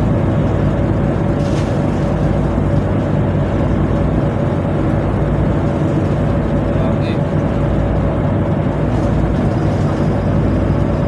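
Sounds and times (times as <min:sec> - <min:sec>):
diesel machinery drone: 0:00.0 - 0:11.0.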